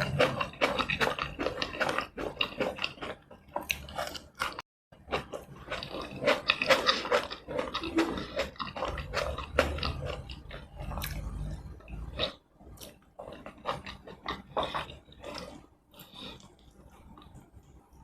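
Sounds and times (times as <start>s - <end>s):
chewing and wet mouth smacking: 0.0s - 18.0s.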